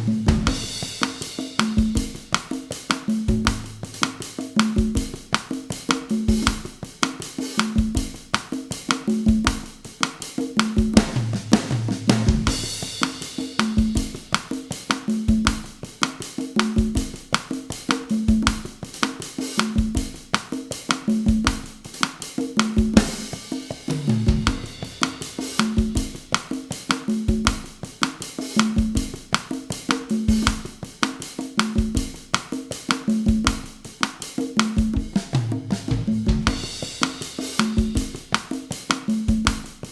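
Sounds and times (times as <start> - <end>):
conga tones: 0.0 - 39.9
drum kit bossa nova groove: 0.0 - 39.9.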